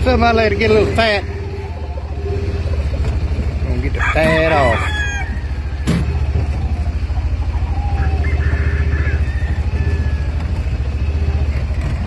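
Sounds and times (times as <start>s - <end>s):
engine idling: 0.0s - 12.0s
faint chicken calls: 1.0s - 11.6s.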